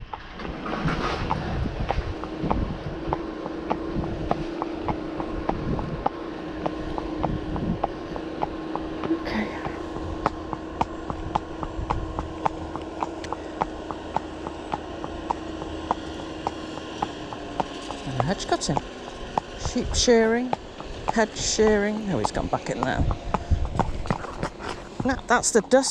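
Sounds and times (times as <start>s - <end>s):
horse hooves clopping on road: 0.0s - 25.9s
tractor droning: 0.0s - 25.9s
wind buffeting microphone: 0.0s - 25.9s.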